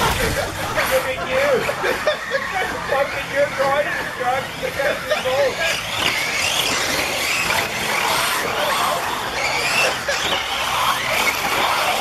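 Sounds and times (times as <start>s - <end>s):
rc buggy motors whining: 0.0s - 12.0s.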